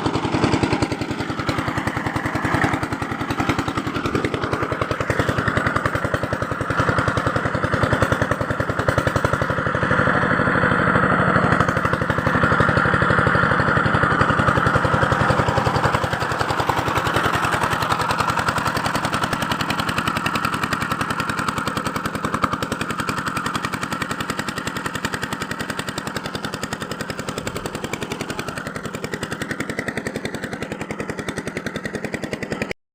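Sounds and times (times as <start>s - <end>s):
small engine running: 0.0s - 32.8s.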